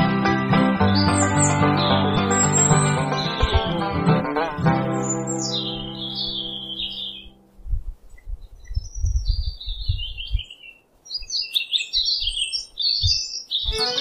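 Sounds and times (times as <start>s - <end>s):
small birds chirping: 0.8s - 7.4s, 8.0s - 14.0s.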